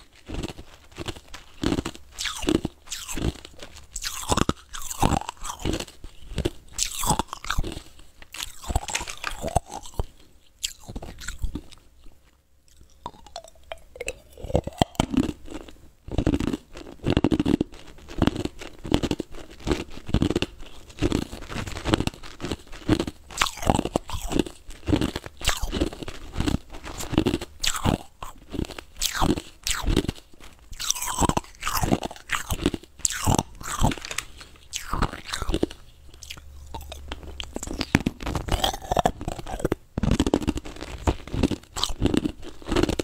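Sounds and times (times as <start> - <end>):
ice cubes crunched between teeth: 0.0 - 43.0.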